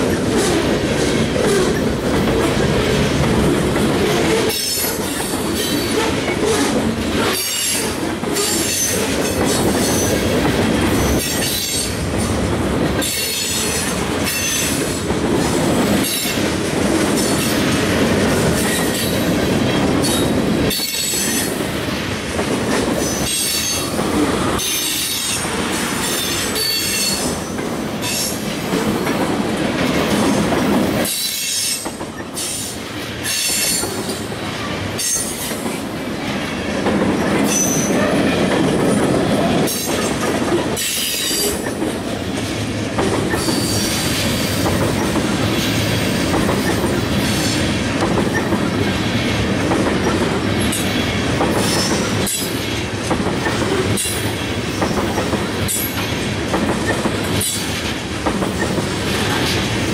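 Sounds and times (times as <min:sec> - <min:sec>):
train wheels running on rails: 0:00.0 - 0:59.9.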